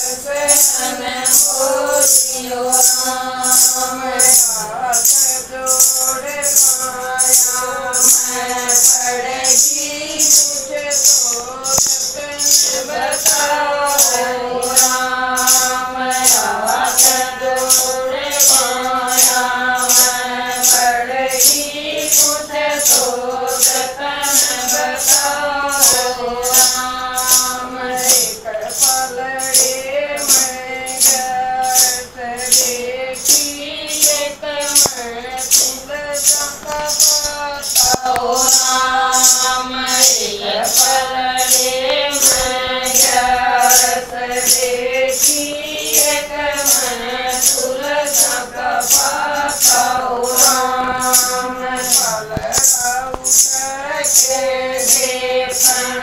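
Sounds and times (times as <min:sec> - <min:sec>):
handheld clappers jingling: 0:00.0 - 0:56.0
women singing devotional song: 0:00.0 - 0:56.0.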